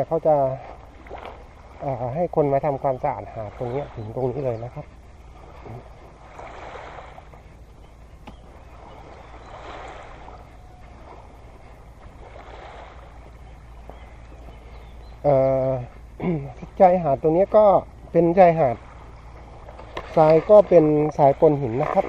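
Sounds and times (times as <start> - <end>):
low steady rumble: 0.0 - 22.0
small waves lapping on sand: 0.0 - 22.0.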